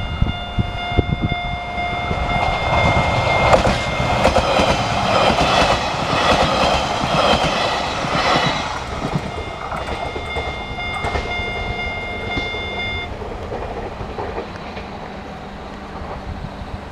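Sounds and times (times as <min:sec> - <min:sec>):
crossing warning bell: 0:00.0 - 0:14.8
train wheels clacking on rails: 0:01.7 - 0:16.9.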